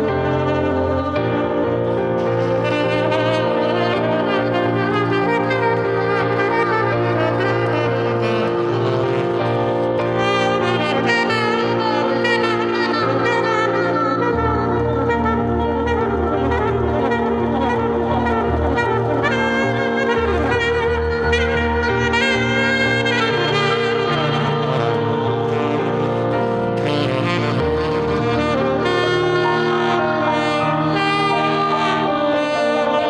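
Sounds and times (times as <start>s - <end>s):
saxophone playing quick runs: 0.0s - 33.0s.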